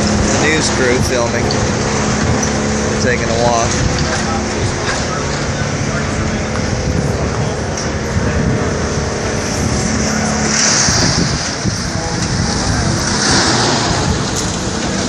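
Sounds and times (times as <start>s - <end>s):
engine running: 0.0s - 15.0s
wind gusting across microphone: 0.0s - 15.0s.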